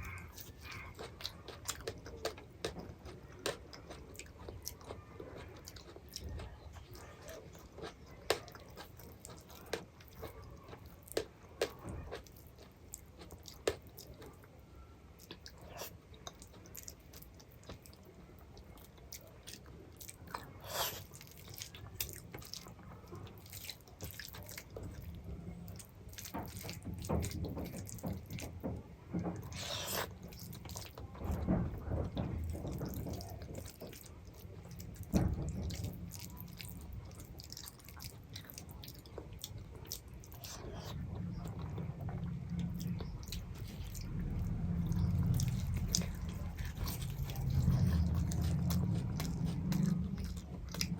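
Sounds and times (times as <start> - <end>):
chewing and biting food: 0.0 - 50.9.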